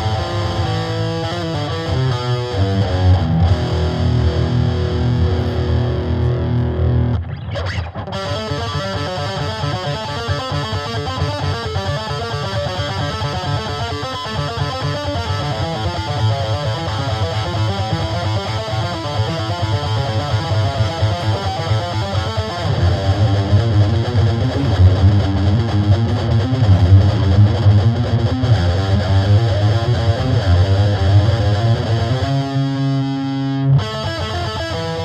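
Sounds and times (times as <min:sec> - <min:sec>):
distorted electric guitar riffs: 0:00.0 - 0:35.0.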